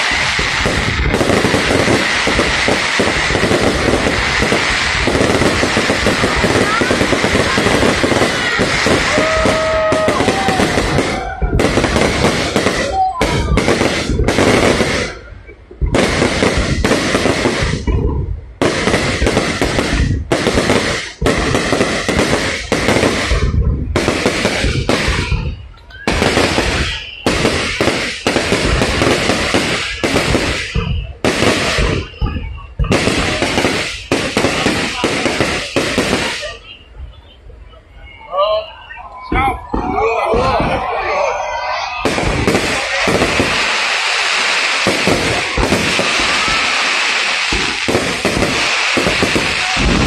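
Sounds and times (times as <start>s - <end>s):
fireworks crackling and popping: 0.0s - 50.0s.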